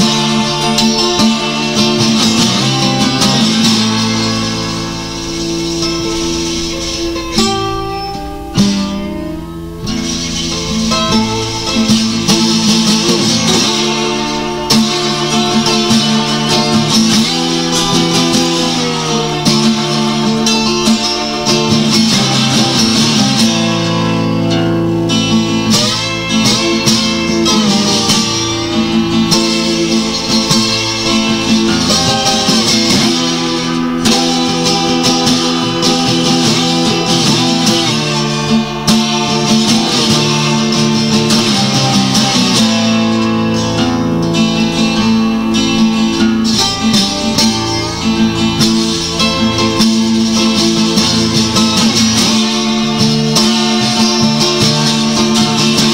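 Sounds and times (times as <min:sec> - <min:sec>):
plucked and strummed guitar: 0:00.0 - 0:55.9.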